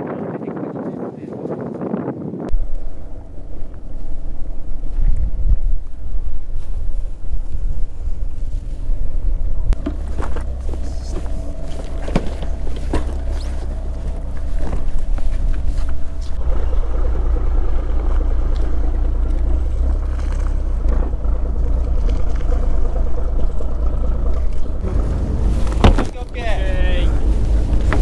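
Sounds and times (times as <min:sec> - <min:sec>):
boat engine rumbling: 0:02.5 - 0:28.0
faint hum: 0:02.5 - 0:28.0.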